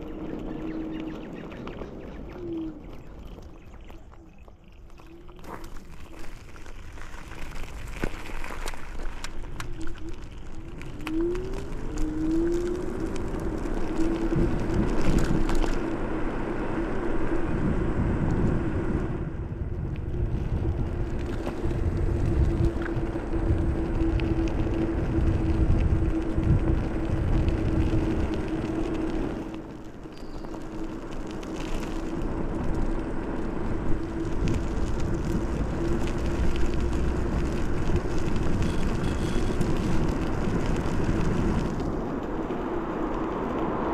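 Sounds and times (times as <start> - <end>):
electric scooter motor whine: 0.0 - 43.9
wind rumble on microphone: 0.0 - 43.9.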